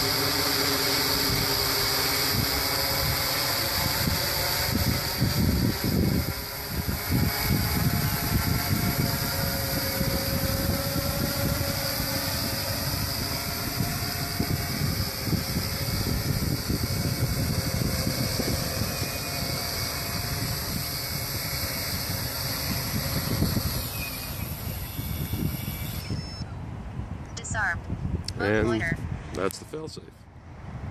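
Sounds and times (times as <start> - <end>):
drone propellers whirring: 0.0 - 27.7
wind rumble on microphone: 0.0 - 30.9.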